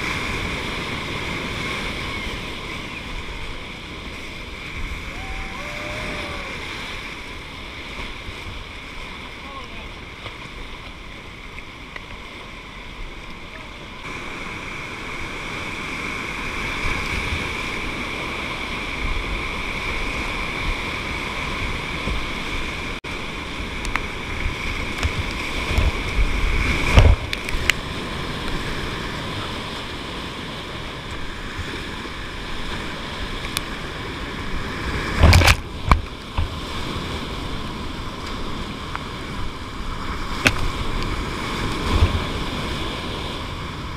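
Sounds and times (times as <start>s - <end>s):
whitewater rapids rushing: 0.0s - 43.9s.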